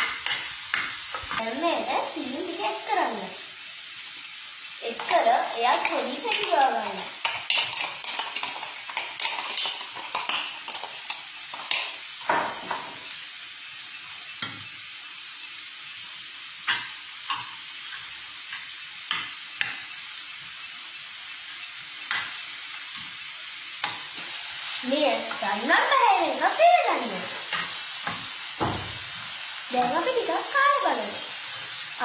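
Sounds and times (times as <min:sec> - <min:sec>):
onions sizzling in a pan: 0:00.0 - 0:32.0.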